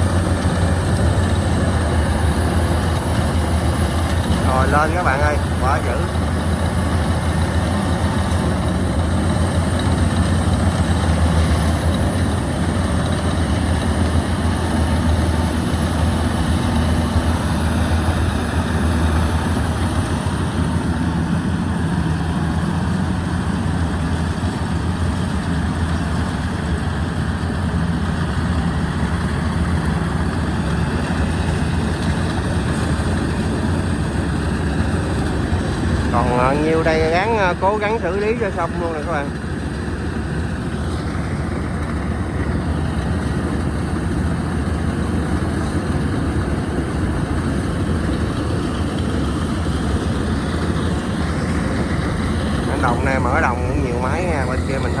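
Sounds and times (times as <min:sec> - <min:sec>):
combine harvester diesel engine: 0:00.0 - 0:55.0.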